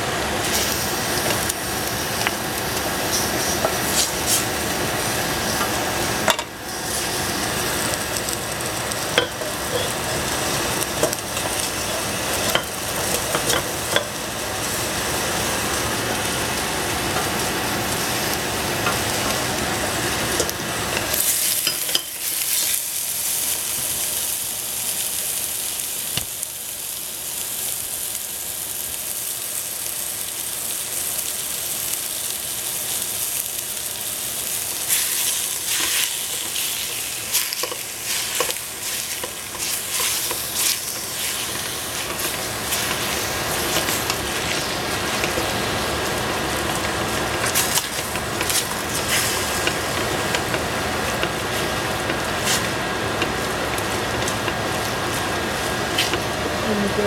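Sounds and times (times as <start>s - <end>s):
meat sizzling in a pot: 0.0s - 57.0s.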